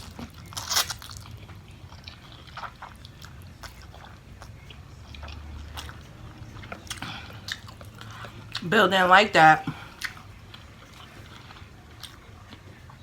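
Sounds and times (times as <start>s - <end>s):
person chewing food: 0.0s - 8.6s, 9.6s - 13.0s.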